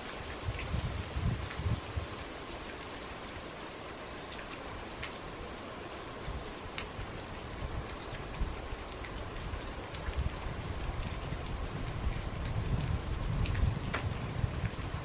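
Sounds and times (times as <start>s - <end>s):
water dripping off roof: 0.0s - 15.0s.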